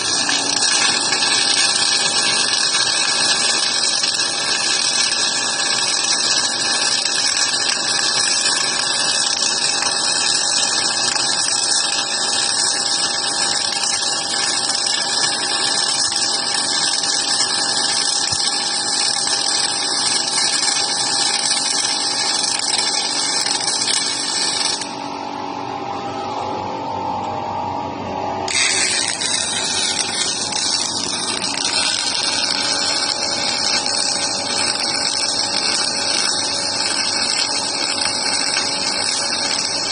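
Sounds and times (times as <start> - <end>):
welding arc crackling: 0.0 - 25.0, 28.5 - 39.9.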